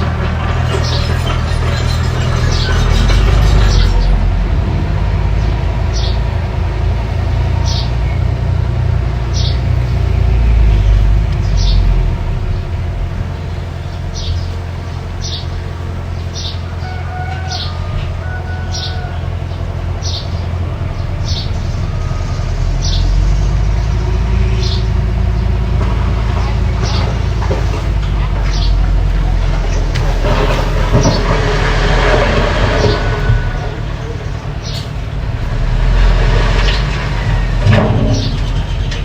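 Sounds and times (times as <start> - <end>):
bulldozer engine rumbling: 0.0 - 39.0.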